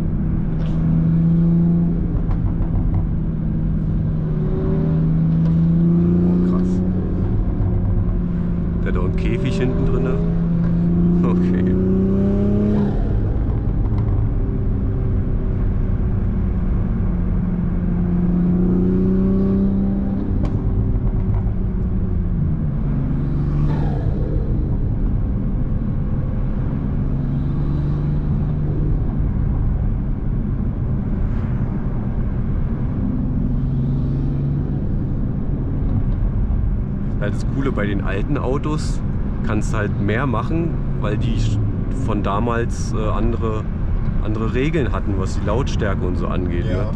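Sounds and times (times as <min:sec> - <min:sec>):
low road rumble: 0:00.0 - 0:46.9.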